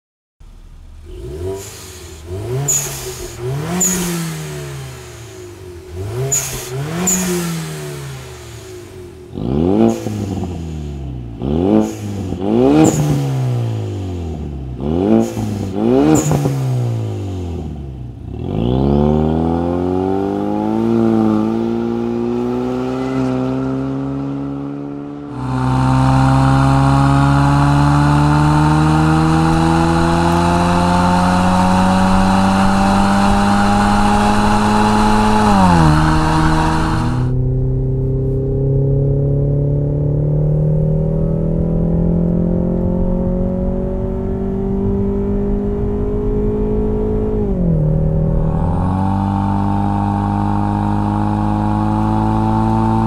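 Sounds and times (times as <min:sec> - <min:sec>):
car accelerating away: 0:00.4 - 0:53.0
car engine revving: 0:00.4 - 0:53.0.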